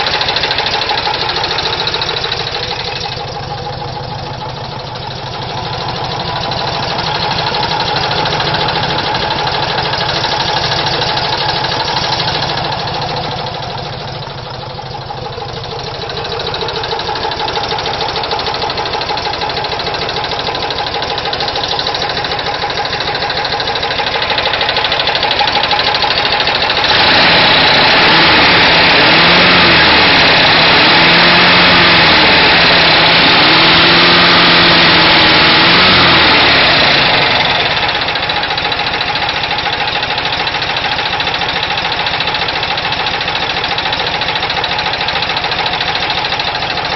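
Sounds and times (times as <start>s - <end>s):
knocking air-cooled engine: 0.0s - 46.9s.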